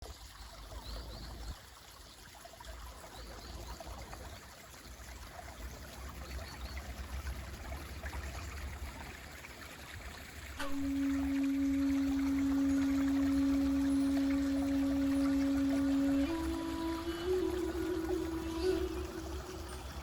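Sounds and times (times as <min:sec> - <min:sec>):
mountain stream running: 0:00.0 - 0:20.0.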